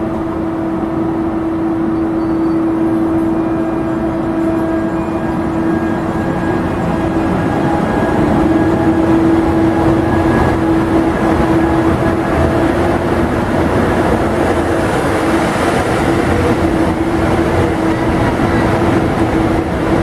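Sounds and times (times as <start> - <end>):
electric locomotive whine: 0.0 - 20.0
wheels rumbling on rails: 0.0 - 20.0.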